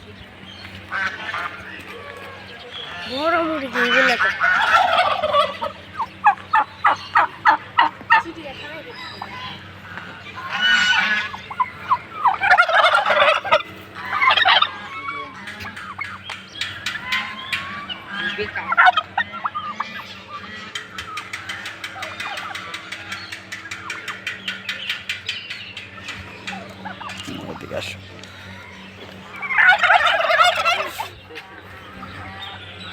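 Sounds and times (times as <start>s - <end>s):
turkeys gobbling: 0.0s - 32.9s.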